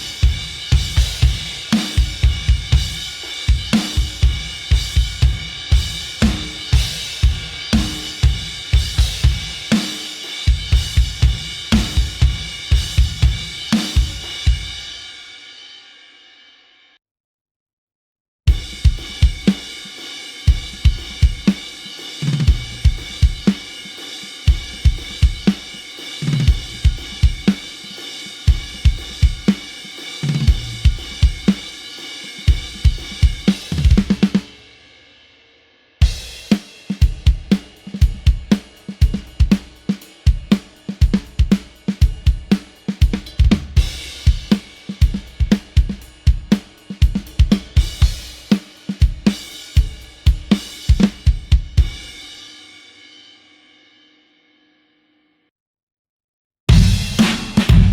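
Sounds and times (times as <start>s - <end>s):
rock drum beat: 0.0s - 15.6s, 18.5s - 35.0s, 36.0s - 52.8s, 56.7s - 57.9s.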